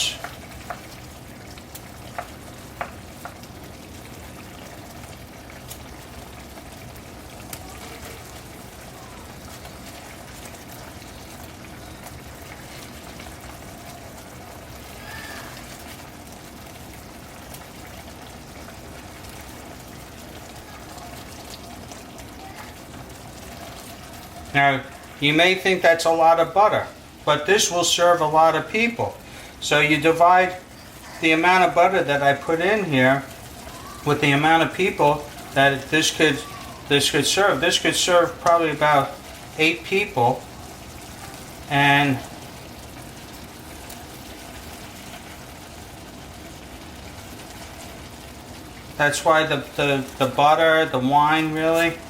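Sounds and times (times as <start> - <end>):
sauce sizzling in a pan: 0.0 - 52.0.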